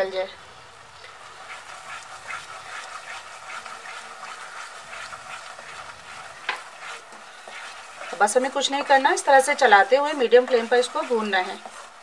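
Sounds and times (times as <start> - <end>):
paste sizzling in a wok: 0.7 - 12.0
wooden spatula scraping: 1.1 - 12.0.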